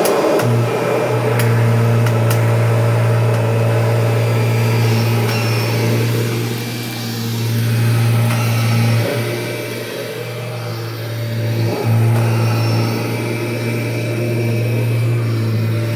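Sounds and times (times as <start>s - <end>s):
vacuum cleaner humming: 0.0s - 15.9s.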